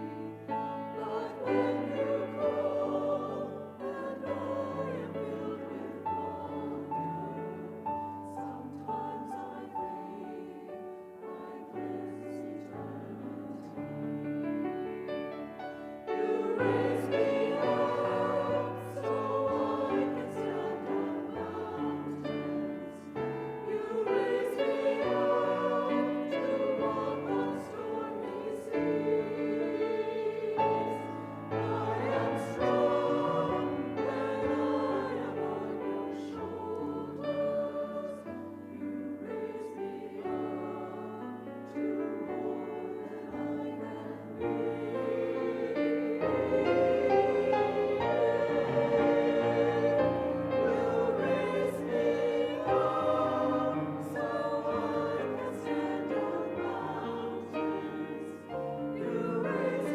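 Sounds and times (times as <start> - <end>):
choir singing held notes: 0.0 - 59.9.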